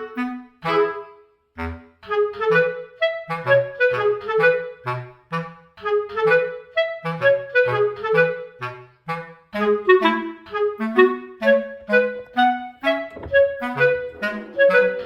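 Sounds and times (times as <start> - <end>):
woodwind melody: 0.0 - 15.0.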